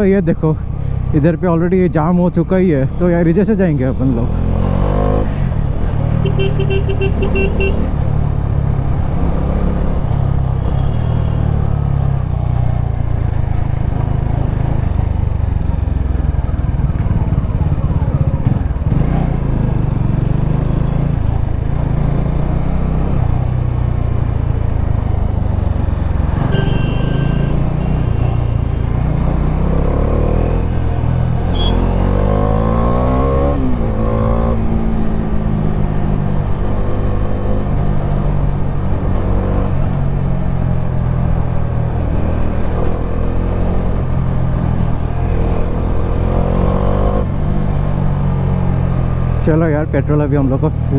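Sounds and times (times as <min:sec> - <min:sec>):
motorcycle engine running: 0:03.6 - 0:50.9.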